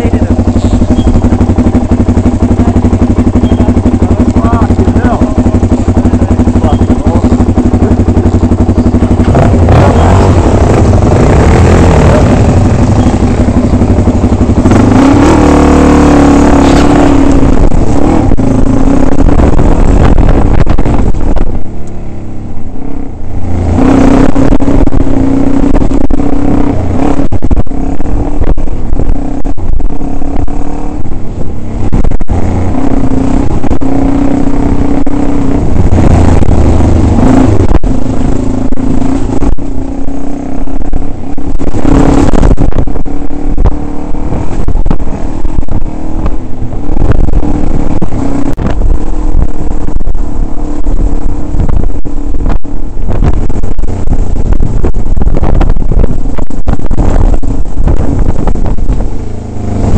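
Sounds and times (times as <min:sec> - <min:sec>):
dirt bike engine revving: 0:00.0 - 0:21.8, 0:22.6 - 0:59.9.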